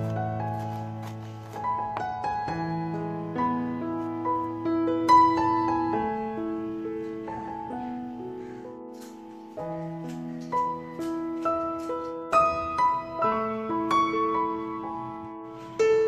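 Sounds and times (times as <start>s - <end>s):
piano music with held notes: 0.0s - 16.0s.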